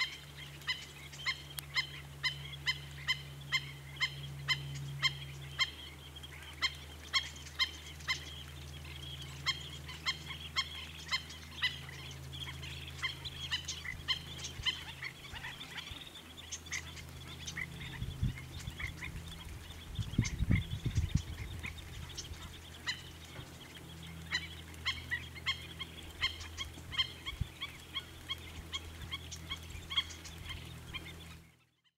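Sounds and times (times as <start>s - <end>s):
steady low hum: 0.0s - 31.7s
wading birds calling: 0.0s - 31.8s.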